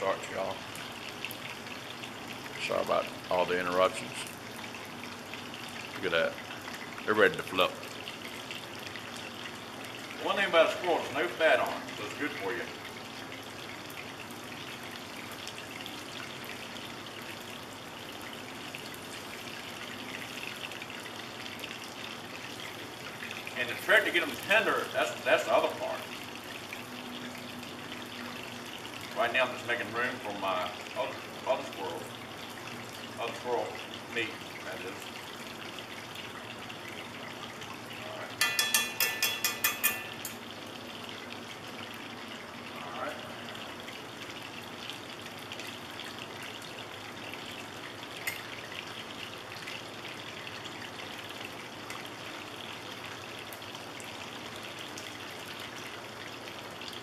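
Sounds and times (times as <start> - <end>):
hot oil sizzling and crackling: 0.0 - 57.0.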